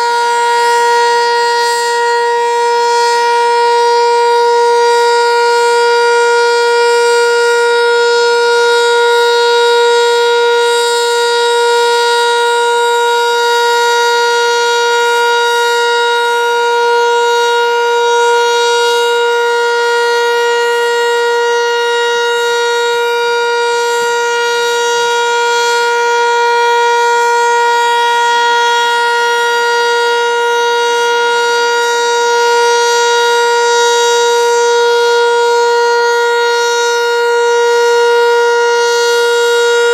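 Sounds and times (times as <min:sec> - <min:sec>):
tornado siren steady wail: 0:00.0 - 0:39.9.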